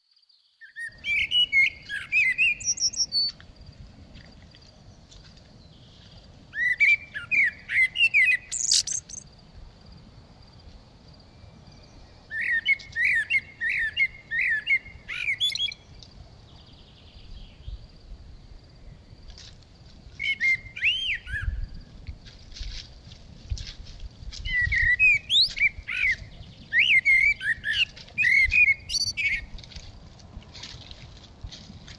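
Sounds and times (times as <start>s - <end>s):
songbird chirping: 0.0s - 29.9s.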